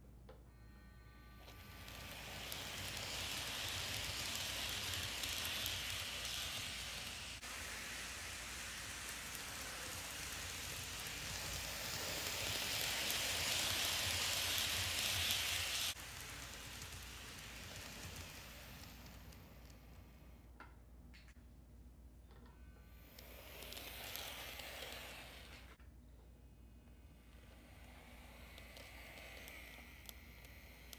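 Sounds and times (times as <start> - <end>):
model train rolling on track: 1.4 - 20.6, 22.9 - 25.8, 27.1 - 30.9.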